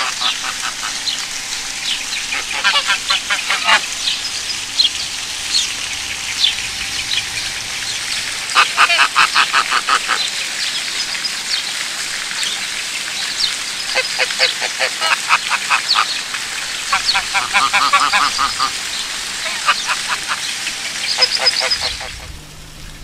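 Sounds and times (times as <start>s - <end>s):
waterfowl rapid calls: 0.0s - 1.3s, 1.9s - 11.5s, 12.5s - 22.4s.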